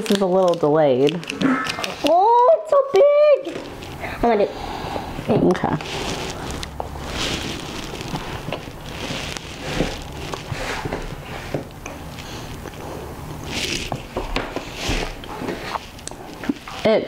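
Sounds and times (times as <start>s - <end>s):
people chewing: 0.0s - 2.2s, 3.5s - 16.9s
mouth and handling noises: 0.0s - 17.0s.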